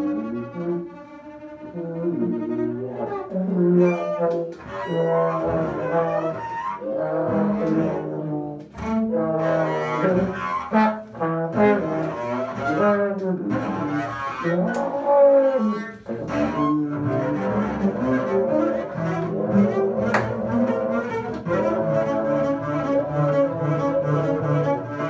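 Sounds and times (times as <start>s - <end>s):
bowed double bass: 0.0s - 25.0s
muted trombone: 1.6s - 25.0s.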